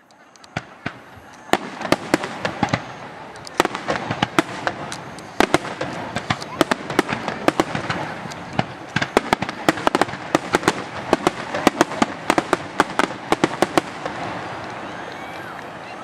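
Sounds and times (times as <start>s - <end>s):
fireworks crackling bangs: 0.3s - 16.0s.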